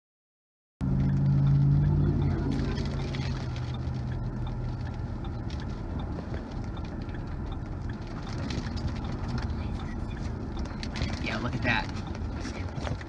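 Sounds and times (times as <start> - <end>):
storm wind buffeting vehicle: 0.8 - 13.0
raindrops ticking on windshield: 1.0 - 13.0.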